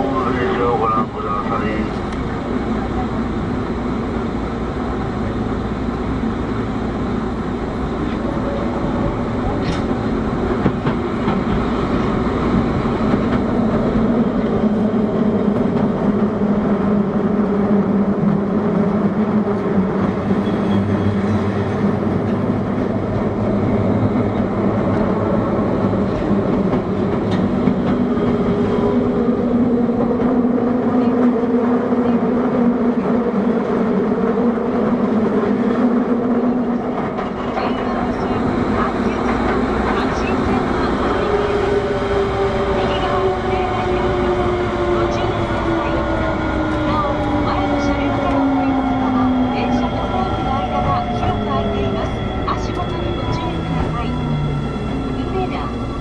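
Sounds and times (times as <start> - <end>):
subway wheel and rail noise: 0.0 - 56.0.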